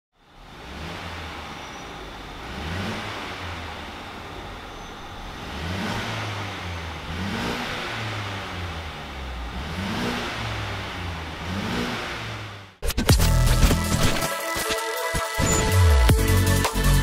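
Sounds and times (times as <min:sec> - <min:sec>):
car engine revving and idling: 0:00.2 - 0:14.7.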